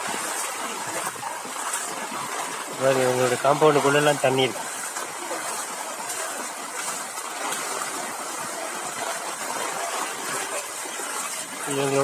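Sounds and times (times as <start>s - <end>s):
floodwater rushing and splashing: 0.0s - 12.0s.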